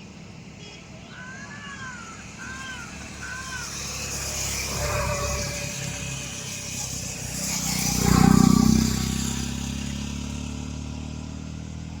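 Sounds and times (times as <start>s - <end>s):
motor vehicle passing by: 1.9s - 12.0s.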